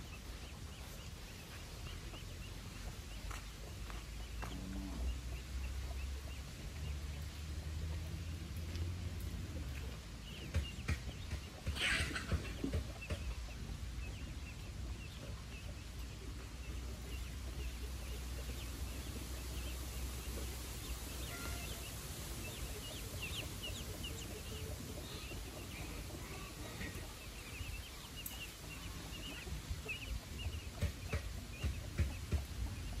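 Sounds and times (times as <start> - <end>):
chickens clucking: 0.0 - 33.0
chicks cheeping: 0.0 - 33.0.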